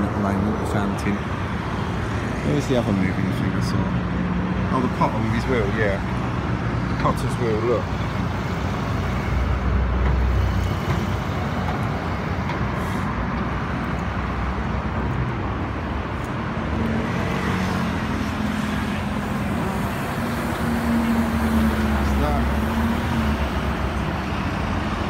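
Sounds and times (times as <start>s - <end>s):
bus engine hum: 0.0s - 25.0s
road traffic rumble: 0.0s - 25.0s.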